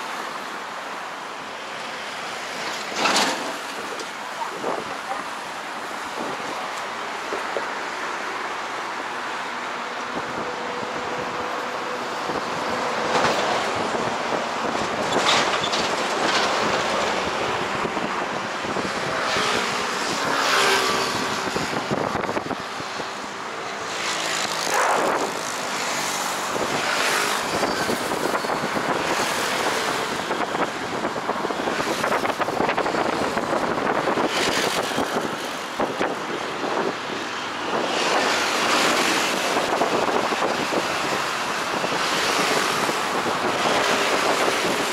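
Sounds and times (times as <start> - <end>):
road noise: 0.0 - 44.9
vehicles passing: 0.0 - 44.9.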